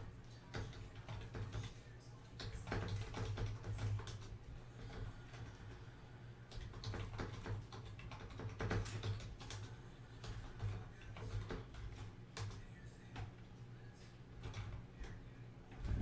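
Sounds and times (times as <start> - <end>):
steady low hum: 0.0 - 16.0
typing on a computer keyboard: 0.4 - 5.8, 6.5 - 13.4, 14.4 - 15.2.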